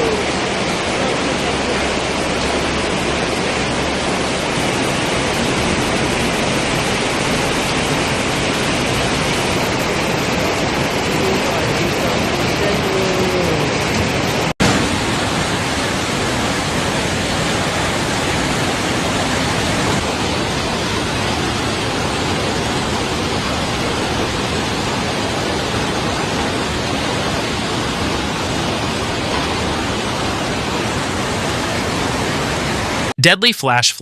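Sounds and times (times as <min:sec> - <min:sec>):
floodwater rushing: 0:00.0 - 0:33.8.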